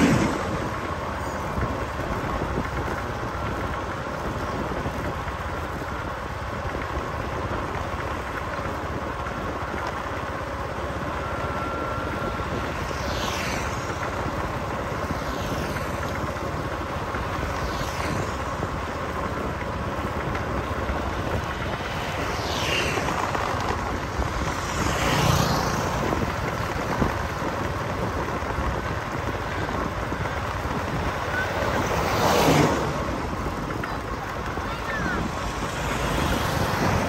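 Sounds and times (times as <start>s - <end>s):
road and wind noise: 0.0s - 37.0s
vehicles passing: 0.0s - 37.0s.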